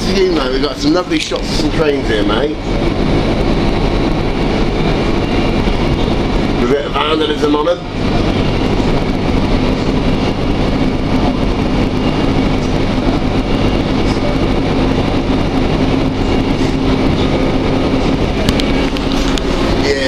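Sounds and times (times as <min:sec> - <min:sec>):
low steady hum: 0:00.0 - 0:20.0
train running noise: 0:00.0 - 0:20.0.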